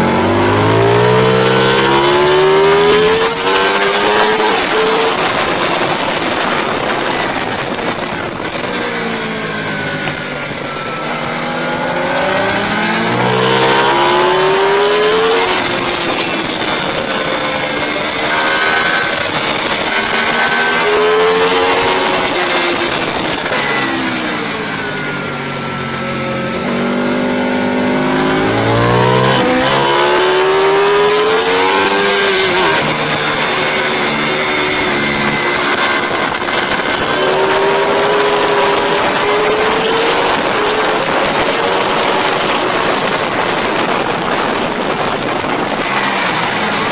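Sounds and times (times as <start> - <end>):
racing motorcycle engines revving: 0.0 - 46.9
wind noise: 0.0 - 46.9.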